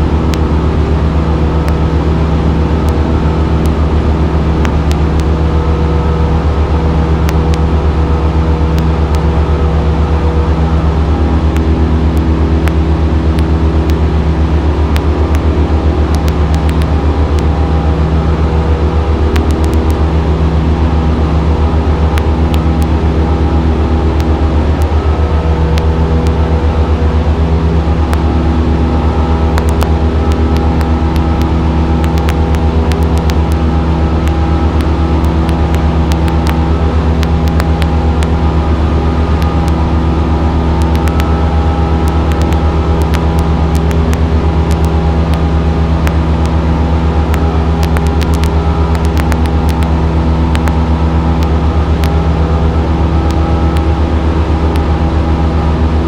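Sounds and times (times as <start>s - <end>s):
light airplane engine droning: 0.0s - 56.0s.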